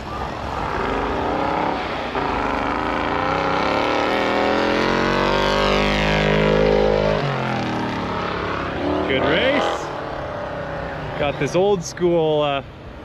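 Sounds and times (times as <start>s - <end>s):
truck engines at full throttle: 0.0s - 13.0s.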